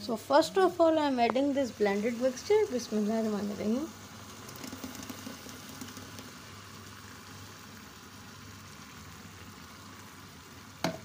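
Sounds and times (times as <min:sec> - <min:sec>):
sauce sizzling and bubbling: 0:00.0 - 0:11.0.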